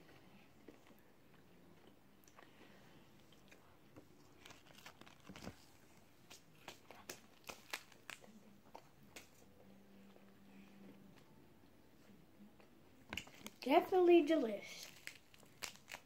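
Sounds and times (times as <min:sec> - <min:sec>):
faint chewing with mouth clicks: 0:00.0 - 0:11.4, 0:12.0 - 0:13.6, 0:14.8 - 0:16.0.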